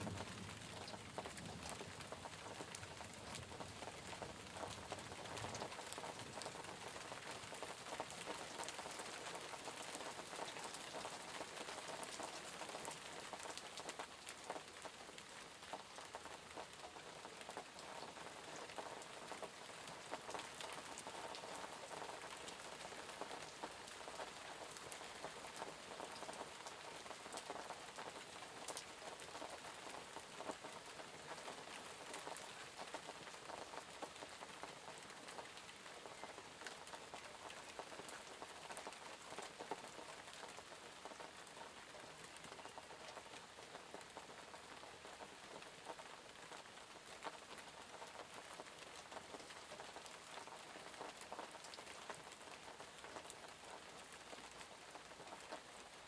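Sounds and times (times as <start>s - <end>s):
gentle rain pattering: 0.0s - 56.0s
louder individual raindrops: 0.0s - 56.0s.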